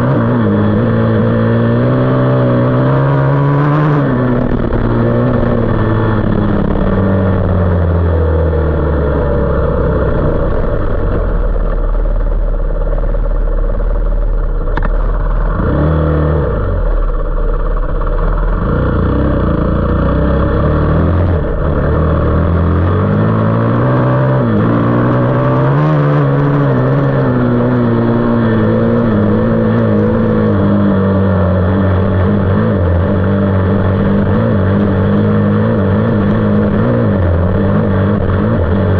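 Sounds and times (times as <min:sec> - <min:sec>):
off-road motorcycle engine revving: 0:00.0 - 0:38.9.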